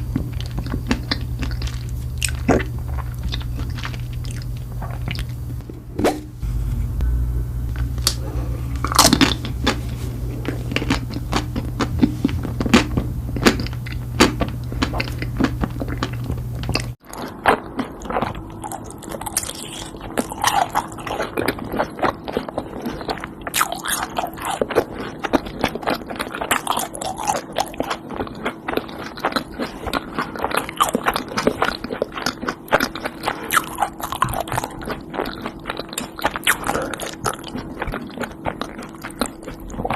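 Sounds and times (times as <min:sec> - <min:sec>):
crunchy bites and chewing: 0:00.0 - 0:06.3, 0:08.8 - 0:39.9.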